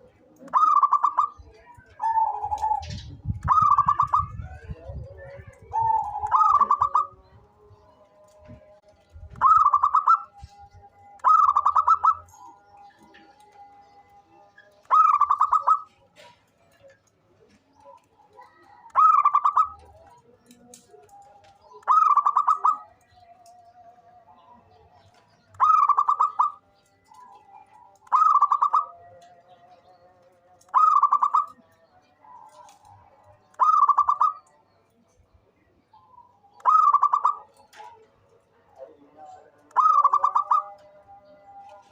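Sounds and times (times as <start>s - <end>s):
dove cooing: 0.0s - 7.5s, 8.5s - 23.3s, 24.2s - 29.6s, 30.6s - 34.6s, 36.0s - 41.9s
fainter lower bird calls: 0.0s - 41.9s.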